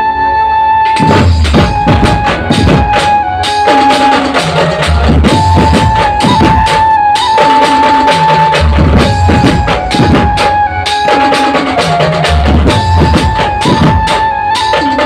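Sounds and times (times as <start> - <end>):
fast drum strokes: 1.0 - 15.0.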